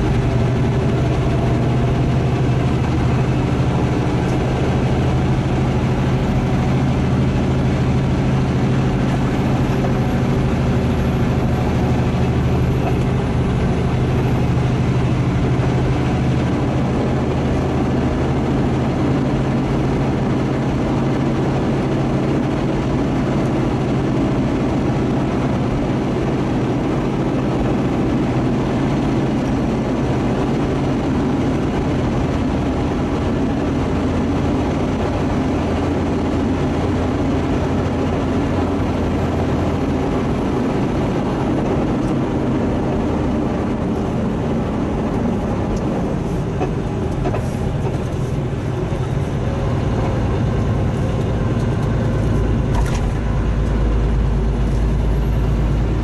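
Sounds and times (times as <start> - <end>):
road noise: 0.0 - 56.0
truck diesel engine droning: 0.0 - 56.0.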